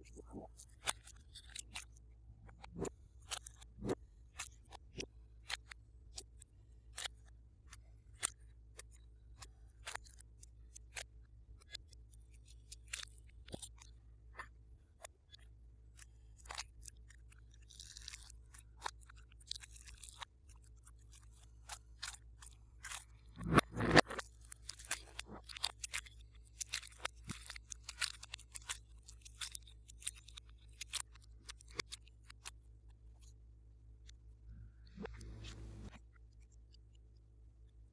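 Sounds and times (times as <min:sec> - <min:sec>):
crackling slime squish: 0:00.0 - 0:34.2.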